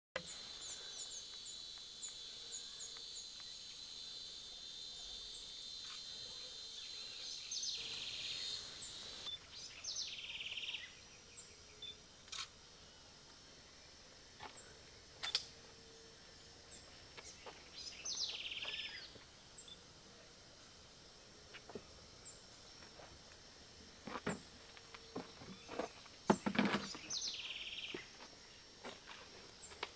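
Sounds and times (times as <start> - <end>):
buzzy bird song: 0.2 - 20.3, 24.9 - 29.9
high-pitched insect drone: 0.2 - 29.9.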